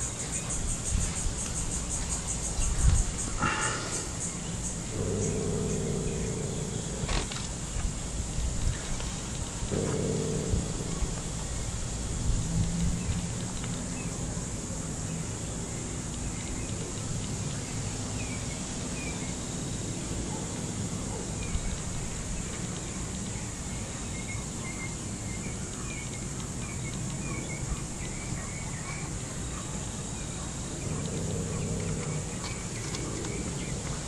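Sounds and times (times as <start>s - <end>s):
low steady rumble: 0.0s - 24.0s, 30.0s - 34.0s
high insect drone: 0.0s - 34.0s.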